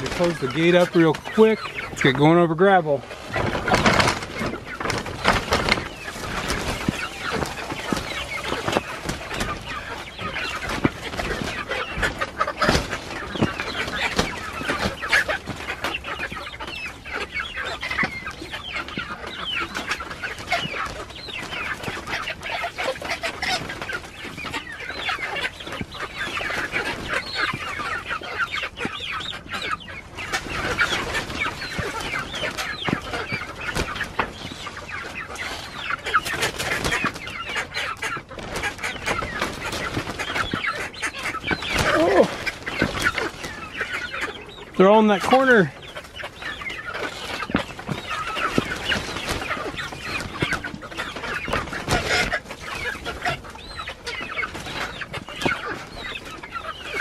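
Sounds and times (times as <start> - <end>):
young chickens clucking and peeping: 0.0 - 57.0.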